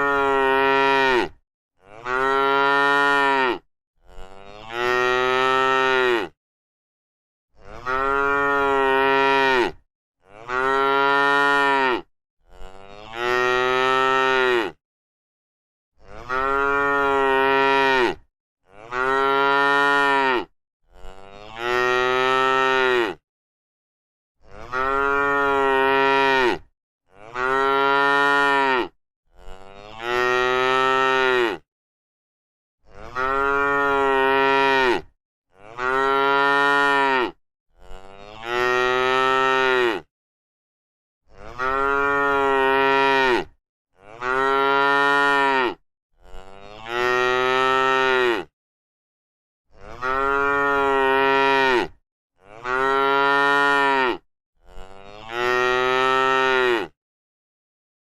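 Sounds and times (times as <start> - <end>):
cow mooing: 0.0 - 6.4, 7.6 - 14.8, 16.0 - 23.2, 24.4 - 31.6, 32.9 - 40.1, 41.4 - 48.5, 49.7 - 57.0.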